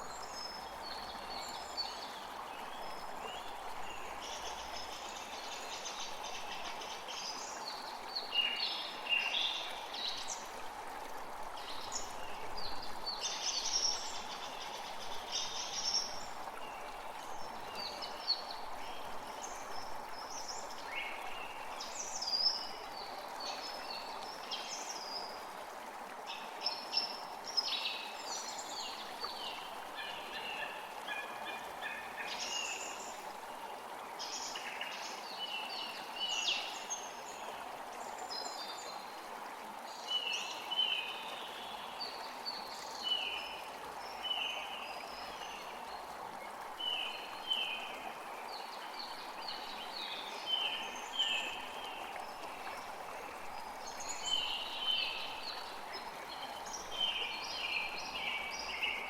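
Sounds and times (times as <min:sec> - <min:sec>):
creek flowing: 0:00.0 - 0:59.0.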